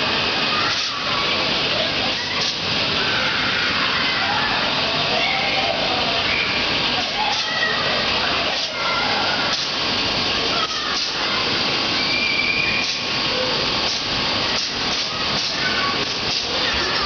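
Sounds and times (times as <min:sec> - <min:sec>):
faint children's voices: 0:00.0 - 0:17.0
rushing air hiss: 0:00.1 - 0:17.0.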